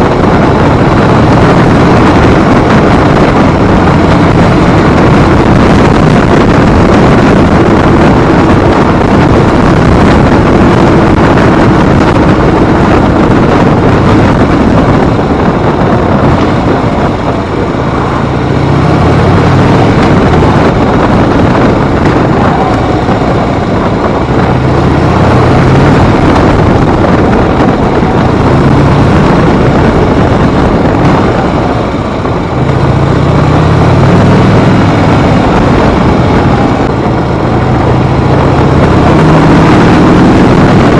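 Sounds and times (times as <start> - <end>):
motorcycle engine accelerating: 0.0 - 40.9
wind rush on microphone: 0.0 - 40.9.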